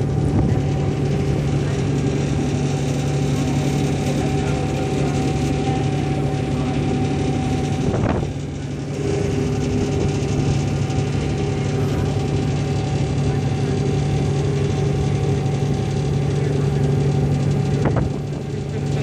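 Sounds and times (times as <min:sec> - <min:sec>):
ferry engine droning: 0:00.0 - 0:19.0.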